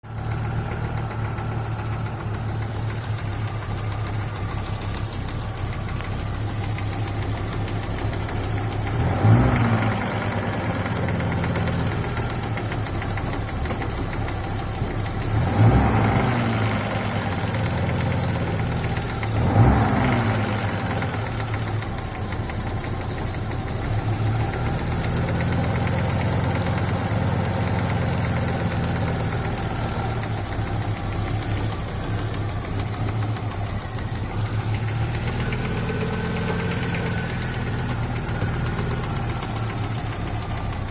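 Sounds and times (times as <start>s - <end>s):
car engine idling with knock: 0.0s - 40.9s.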